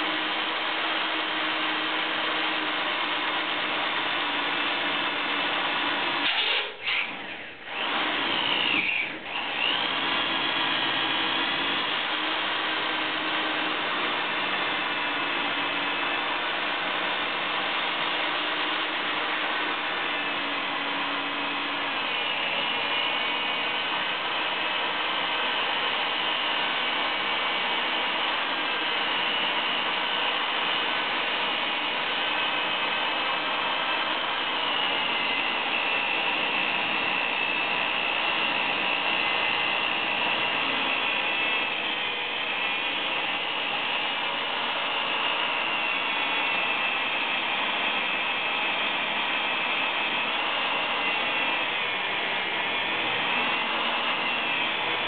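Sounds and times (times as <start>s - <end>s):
electric drill boring into metal: 0.0s - 55.0s.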